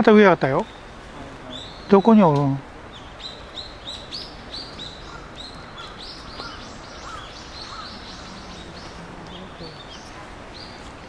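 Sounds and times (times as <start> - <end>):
lower bird calls: 0.0 - 11.0
high thin bird calls: 0.5 - 11.0.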